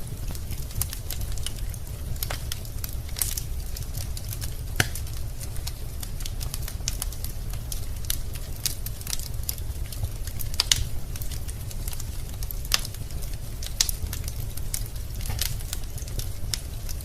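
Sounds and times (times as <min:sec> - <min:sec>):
flames rumbling in fireplace: 0:00.0 - 0:17.0
logs crackling and popping: 0:00.0 - 0:17.0.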